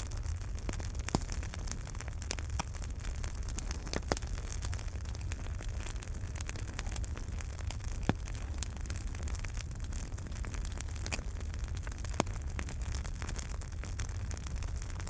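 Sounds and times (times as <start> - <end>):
fire crackles and pops: 0.0 - 15.0
fire rumbling and hissing: 0.0 - 15.0.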